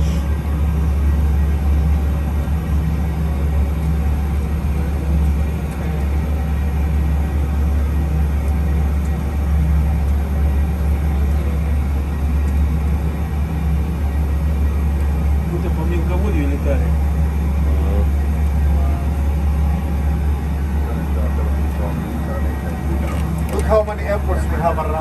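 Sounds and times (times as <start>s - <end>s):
low engine and airflow rumble: 0.0s - 25.0s.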